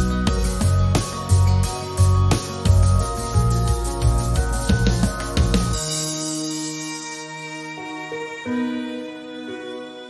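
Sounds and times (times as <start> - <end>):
music with pulsing bass: 0.0 - 8.7.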